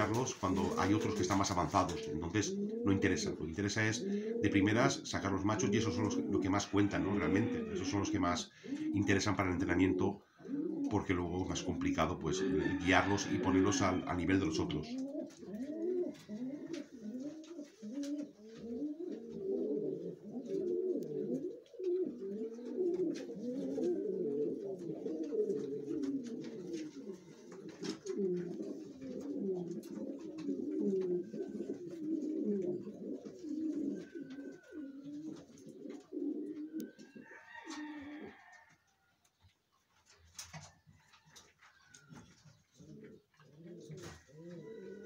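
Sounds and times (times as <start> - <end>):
pigeons cooing: 0.0 - 38.7, 40.0 - 45.0.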